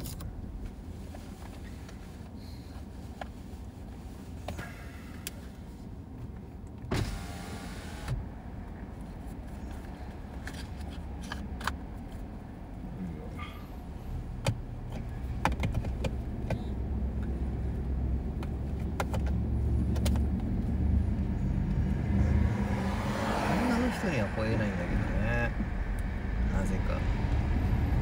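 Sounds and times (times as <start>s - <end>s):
car rumble from inside cabin: 0.0s - 28.0s.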